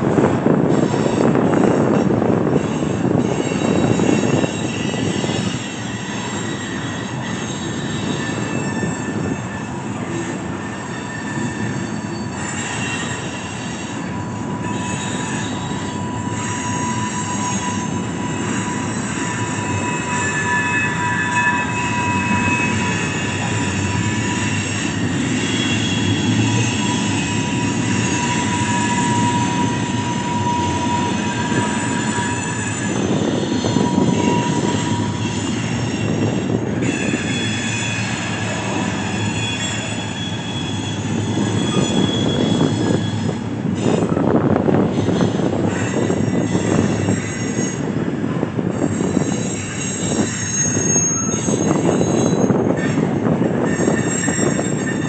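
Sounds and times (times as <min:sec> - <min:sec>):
train wheels rumbling on rail: 0:00.0 - 0:55.0
wheel flanges squealing: 0:00.1 - 0:55.0.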